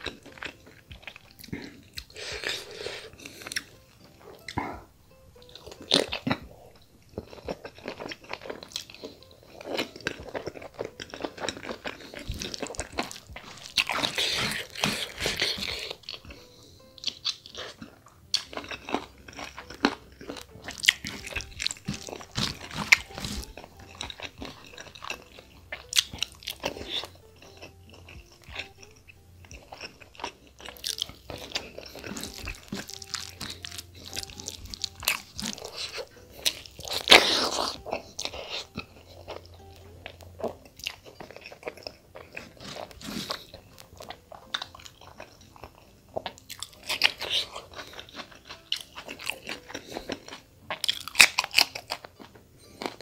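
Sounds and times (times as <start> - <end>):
chewing and mouth smacks: 0.0 - 4.8, 5.4 - 53.0.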